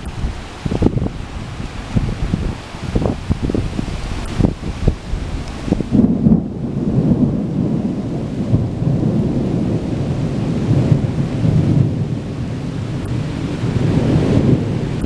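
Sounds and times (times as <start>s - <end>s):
falling rain: 0.0s - 15.0s
thunder rumbling: 0.0s - 15.0s.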